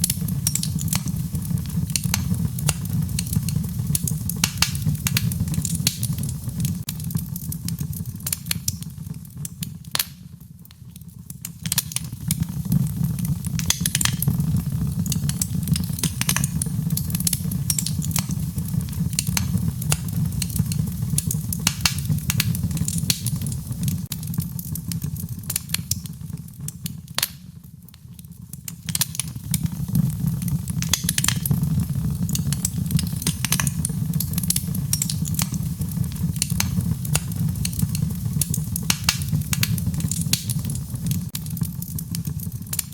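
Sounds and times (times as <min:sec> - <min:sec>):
fire crackling with pops: 0:00.0 - 0:42.9
low rumble of flames: 0:00.0 - 0:42.9.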